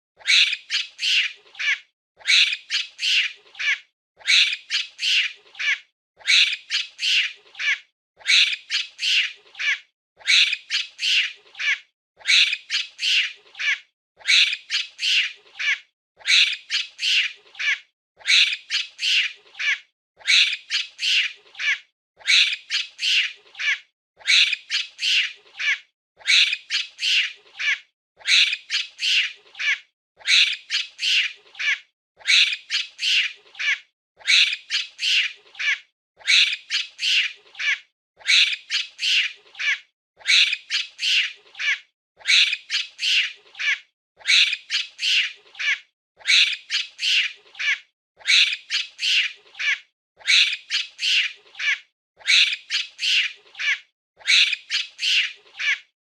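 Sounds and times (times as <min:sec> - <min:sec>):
monkey squeaking calls: 0:00.2 - 0:55.9.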